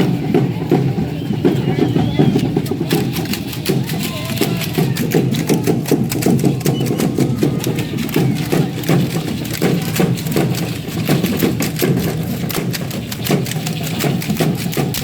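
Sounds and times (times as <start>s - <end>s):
pulsing low drumbeat: 0.0s - 15.0s
rattles and stepping clatter: 2.3s - 15.0s.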